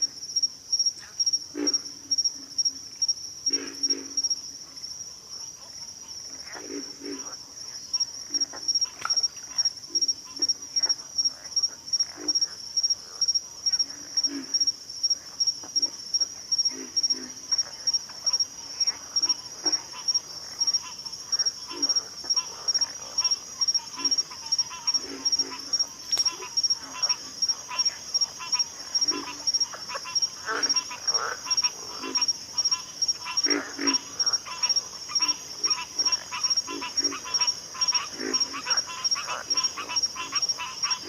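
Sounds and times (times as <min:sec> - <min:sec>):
frogs grunting: 0:00.0 - 0:41.0
high-pitched insect chirp: 0:00.0 - 0:41.0.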